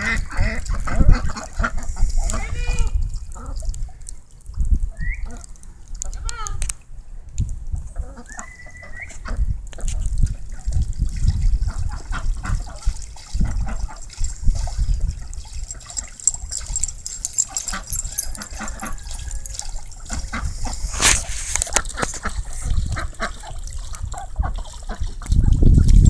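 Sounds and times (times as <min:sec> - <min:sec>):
ducks splashing water: 0:00.0 - 0:04.2, 0:08.0 - 0:26.0
wind rumble on microphone: 0:00.0 - 0:26.0.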